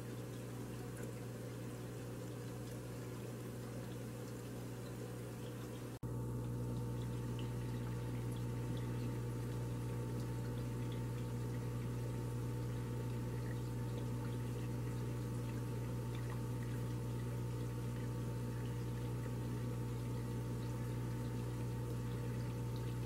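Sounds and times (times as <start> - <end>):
faint water drips: 0.0 - 23.0
steady low hum: 0.0 - 23.0
water trickling and splashing: 0.0 - 23.0.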